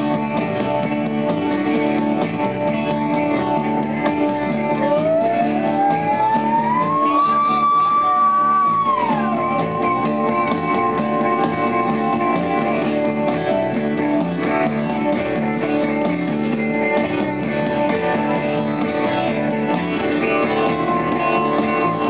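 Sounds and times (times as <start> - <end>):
lead guitar line sliding: 0.0 - 22.0
live rock band playing: 0.0 - 22.0
strummed guitar chords: 0.0 - 22.0.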